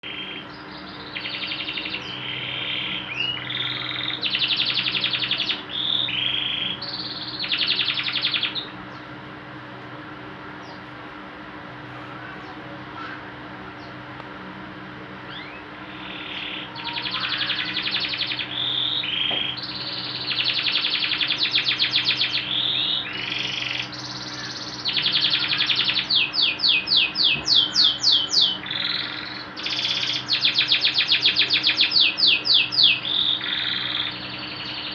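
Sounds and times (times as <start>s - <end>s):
canary singing trills: 0.0s - 9.3s, 15.2s - 34.9s.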